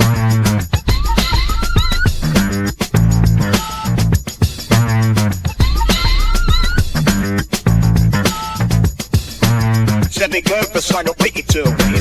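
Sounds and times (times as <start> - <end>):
funk music with guitar and bass: 0.0 - 12.0
steady drum beat: 0.0 - 12.0.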